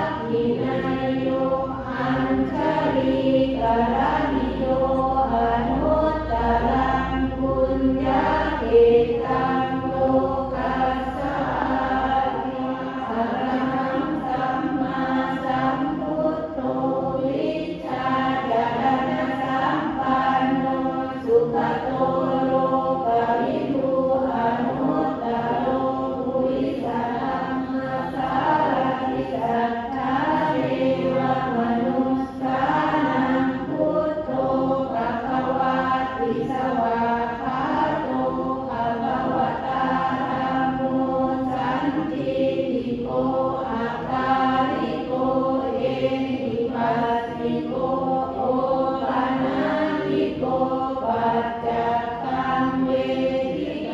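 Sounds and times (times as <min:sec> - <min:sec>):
group of voices chanting: 0:00.0 - 0:53.9.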